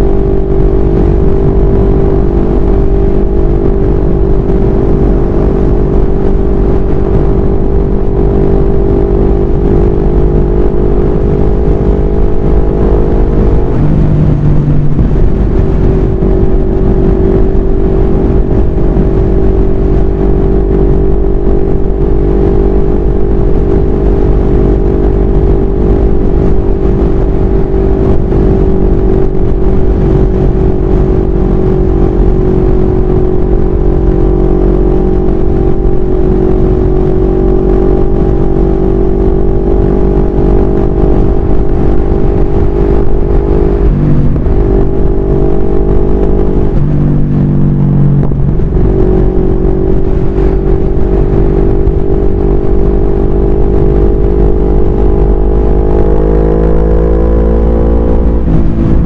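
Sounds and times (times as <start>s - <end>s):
motorcycle engine cruising: 0.0s - 59.0s
wind rumble on microphone: 0.0s - 59.0s.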